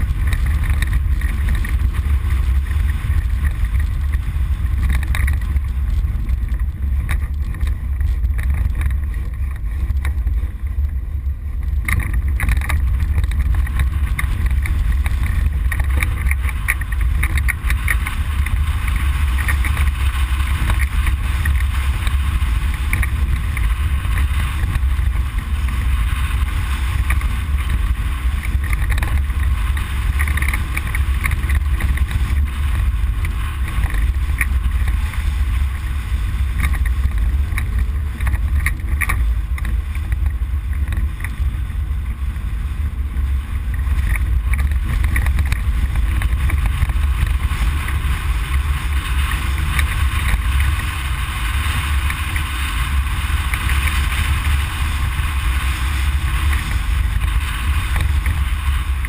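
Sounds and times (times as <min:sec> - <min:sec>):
rattles and small knocks: 0:00.0 - 0:11.0, 0:11.6 - 0:35.7, 0:36.4 - 0:41.5, 0:43.7 - 0:50.9
vehicle interior low rumble: 0:00.0 - 0:59.0.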